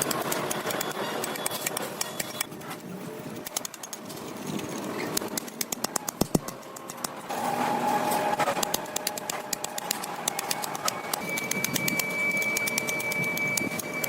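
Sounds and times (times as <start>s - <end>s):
rapid clicking and knocking: 0.0s - 2.6s, 3.4s - 7.3s, 8.5s - 14.0s.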